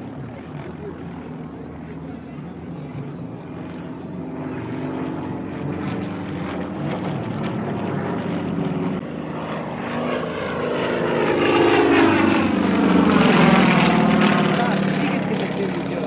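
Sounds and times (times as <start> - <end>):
propeller airplane engine: 0.0 - 16.0.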